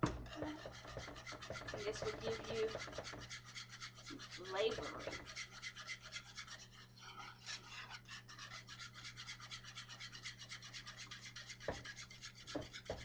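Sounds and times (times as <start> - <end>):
whisk scraping a pan: 0.0 - 13.0.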